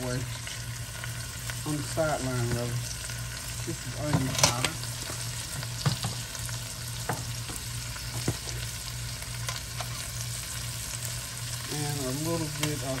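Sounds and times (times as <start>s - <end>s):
onions and peppers sizzling: 0.0s - 13.0s.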